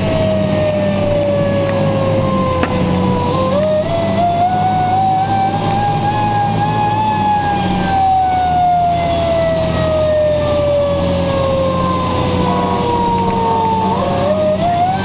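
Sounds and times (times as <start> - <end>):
fire engine siren: 0.0 - 15.0
truck engine running: 0.0 - 15.0.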